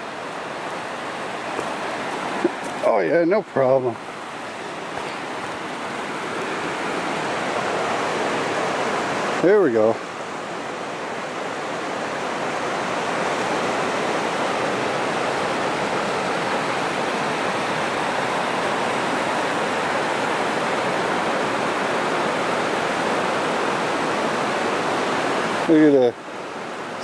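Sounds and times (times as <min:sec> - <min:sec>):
river rapids rushing: 0:00.0 - 0:27.0.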